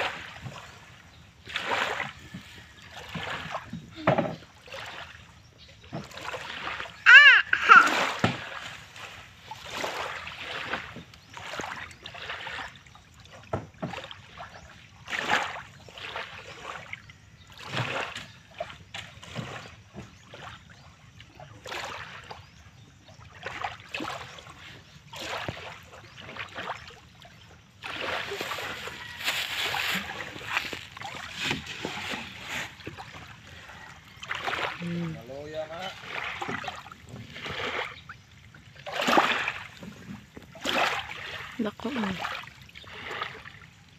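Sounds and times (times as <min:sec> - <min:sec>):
shallow water splashing: 0:00.0 - 0:43.9.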